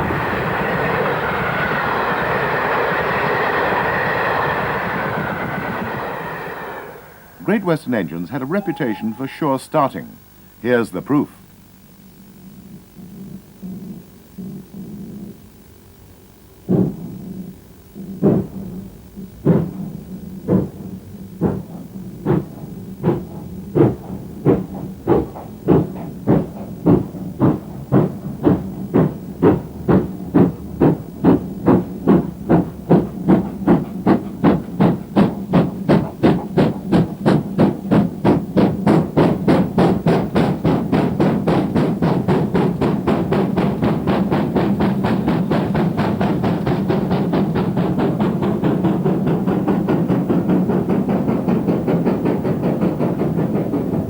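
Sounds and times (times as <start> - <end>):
steam locomotive chuffing: 0.0 - 11.4, 16.6 - 54.0.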